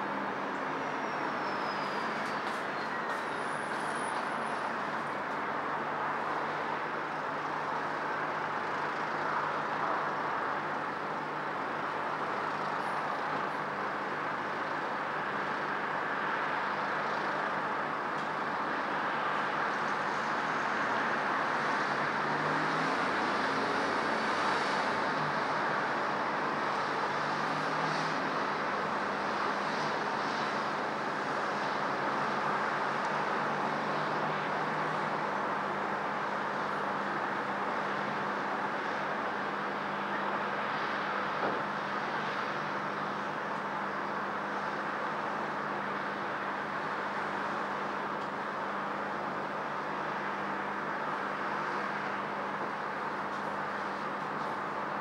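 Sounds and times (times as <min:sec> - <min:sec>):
road traffic rush: 0:00.0 - 0:55.0.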